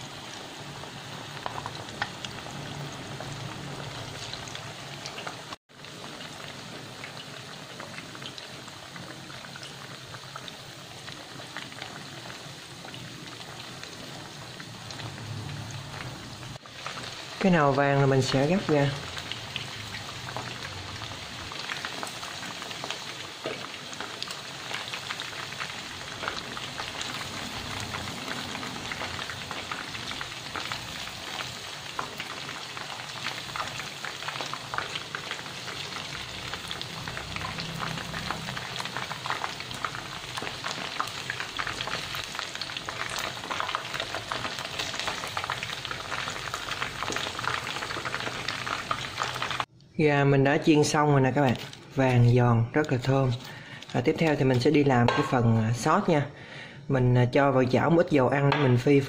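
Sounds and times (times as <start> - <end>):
chicken deep-frying in oil: 0.0 - 56.2.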